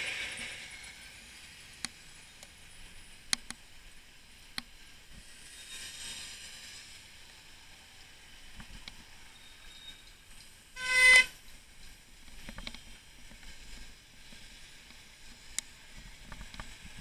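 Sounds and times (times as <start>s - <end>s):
traffic: 0.0s - 17.0s
wind hiss: 0.0s - 17.0s.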